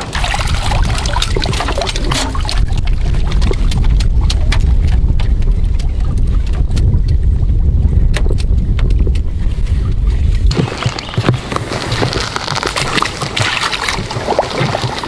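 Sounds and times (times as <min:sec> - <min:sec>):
water sloshing: 0:00.0 - 0:07.1, 0:09.2 - 0:15.0
small clicks and splashes: 0:00.0 - 0:15.0
steady low rumble: 0:00.0 - 0:15.0.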